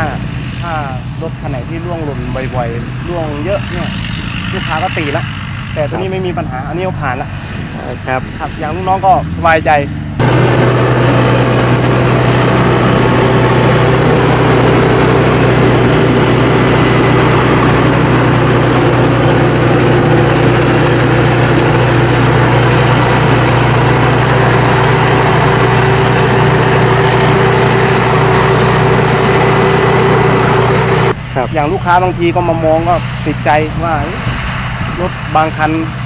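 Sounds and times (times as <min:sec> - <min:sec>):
combine harvester engine hum: 0:00.0 - 0:36.0
thin high whine: 0:00.0 - 0:36.0.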